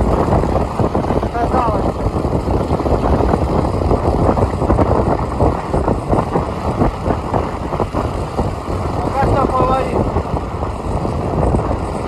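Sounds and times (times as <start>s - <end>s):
vehicle engine and road noise: 0.0s - 12.0s
wind buffeting microphone: 0.0s - 12.0s.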